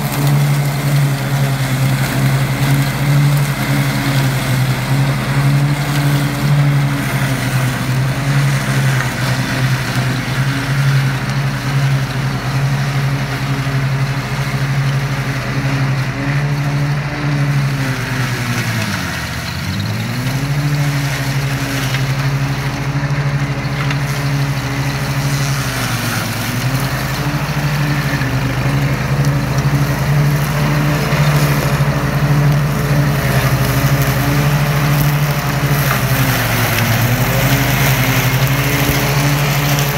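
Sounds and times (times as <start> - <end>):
blades cutting bramble: 0.0 - 39.9
ride-on lawn mower engine: 0.0 - 39.9.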